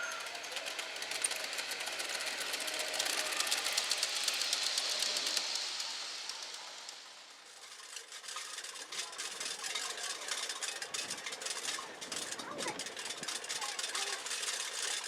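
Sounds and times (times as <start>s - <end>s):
model train wheels clicking: 0.0s - 15.0s.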